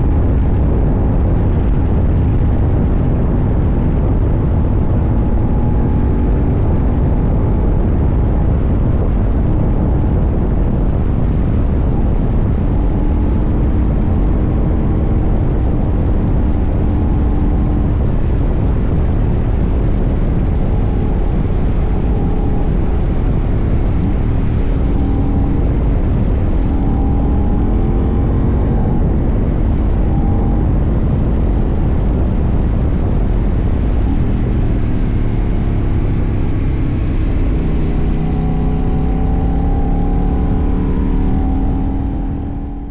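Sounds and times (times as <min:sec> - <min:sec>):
motorcycle engine running: 0:00.0 - 0:42.9
wind rush on microphone: 0:00.0 - 0:42.9.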